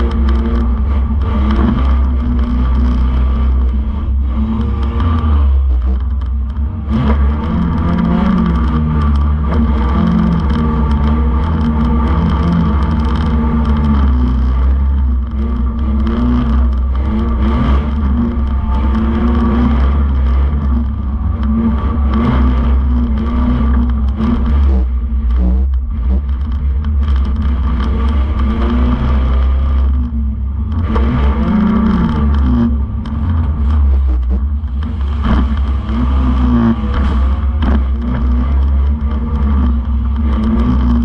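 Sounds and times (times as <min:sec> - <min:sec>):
racing car engine revving: 0:00.0 - 0:41.0.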